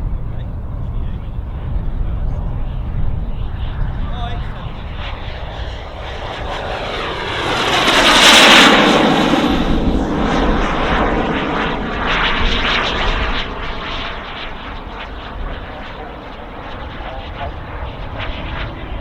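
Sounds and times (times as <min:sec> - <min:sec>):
model jet turbine passing: 0:00.0 - 0:19.0.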